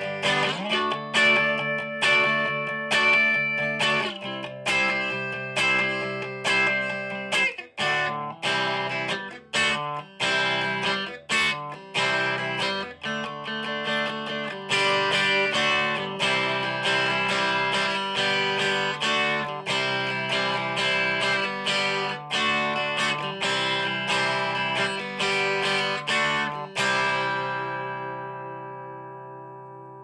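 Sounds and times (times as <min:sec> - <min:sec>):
electric guitar strumming chords: 0:00.0 - 0:30.0.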